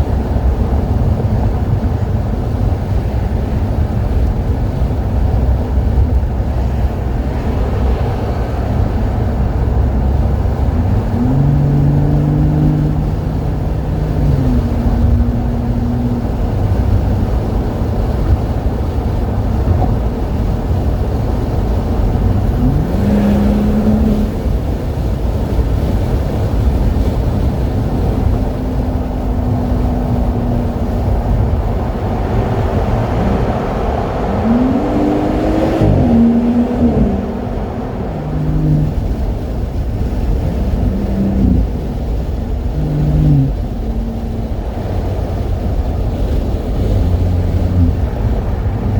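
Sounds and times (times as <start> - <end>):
car engine exhaust note: 0.0 - 48.9
low road rumble: 0.0 - 48.9.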